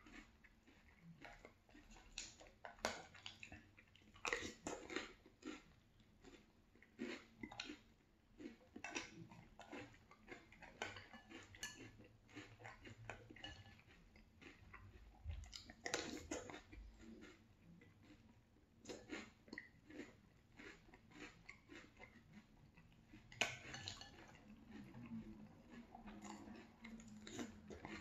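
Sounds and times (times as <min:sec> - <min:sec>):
chewing crunchy cereal: 0:00.0 - 0:28.0.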